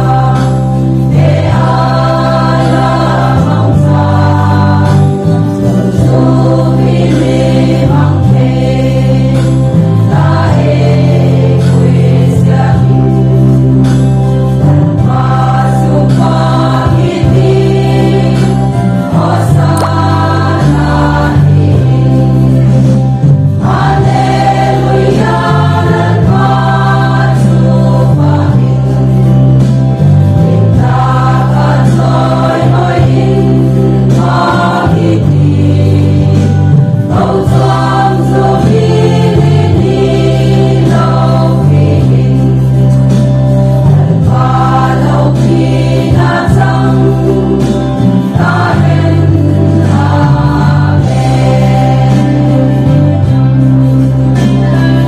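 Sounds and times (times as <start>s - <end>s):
heavy bass line: 0.0s - 55.0s
women's choir singing gospel: 0.0s - 55.0s.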